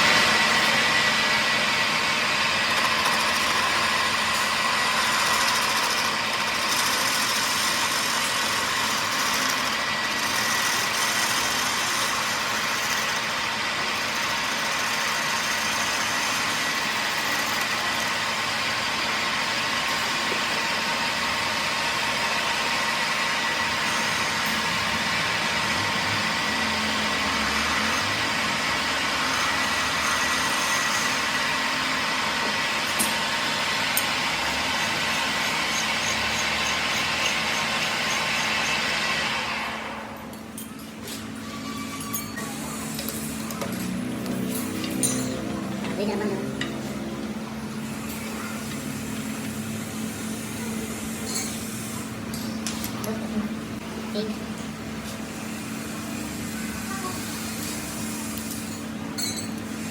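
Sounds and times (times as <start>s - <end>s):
power tool motor running: 0.0s - 40.3s, 41.0s - 53.9s, 55.0s - 58.9s.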